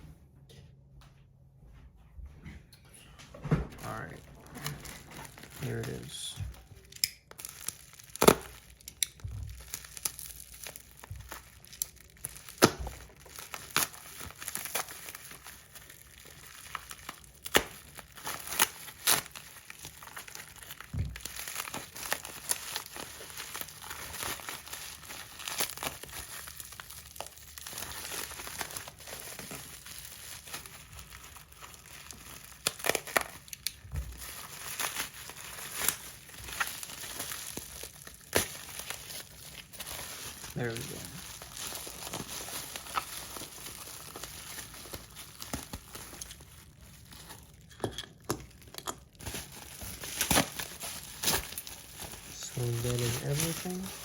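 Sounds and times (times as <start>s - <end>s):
packaging crinkling and rustling: 3.8s - 54.0s.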